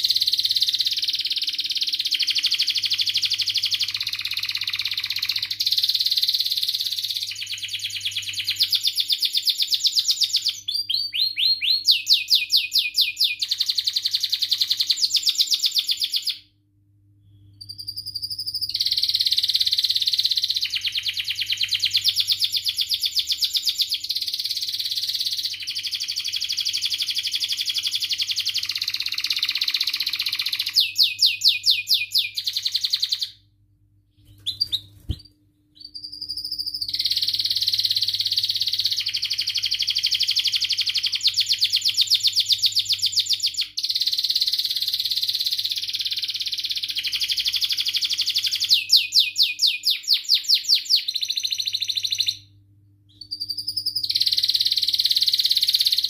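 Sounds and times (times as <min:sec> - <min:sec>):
canary singing: 0:00.0 - 0:16.5, 0:17.4 - 0:33.4, 0:34.2 - 0:56.0.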